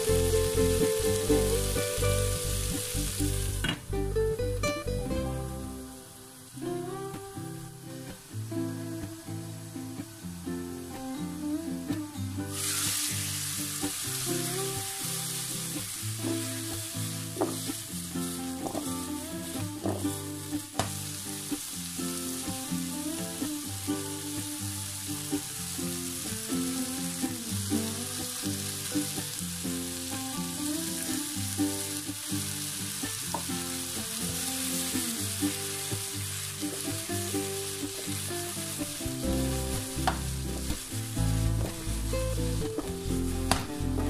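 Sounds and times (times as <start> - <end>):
music with held notes: 0.0 - 44.0
vegetables sizzling in hot oil: 0.0 - 44.0.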